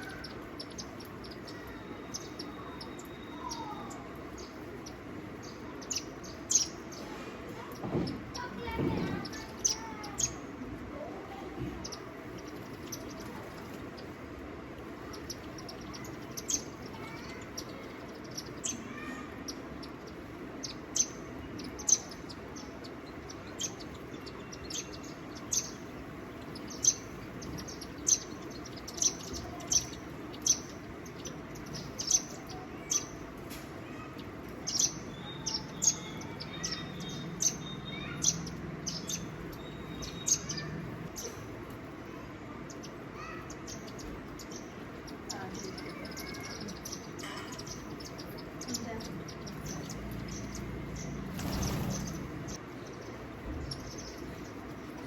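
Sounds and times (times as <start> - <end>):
birds chirping: 0.0 - 55.0
outdoor background noise: 0.0 - 55.0.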